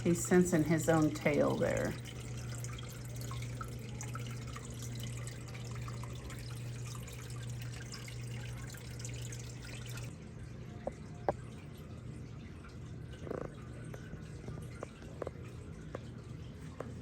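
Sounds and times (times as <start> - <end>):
steady low hum: 0.0 - 17.0
water dripping and trickling: 0.0 - 17.0.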